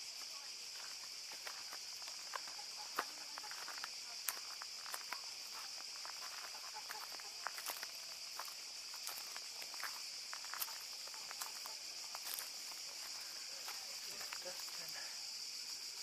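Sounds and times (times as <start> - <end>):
cicadas buzzing: 0.0 - 16.0
footsteps: 0.2 - 15.2.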